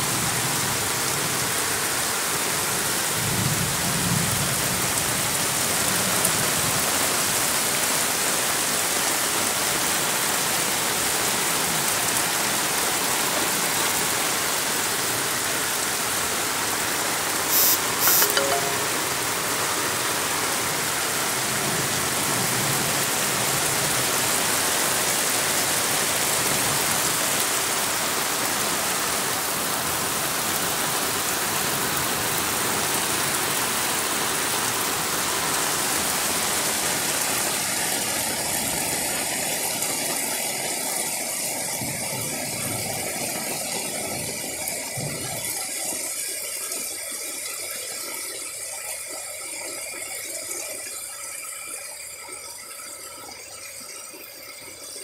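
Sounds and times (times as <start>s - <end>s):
heavy rain falling: 0.0s - 18.0s, 19.0s - 46.0s.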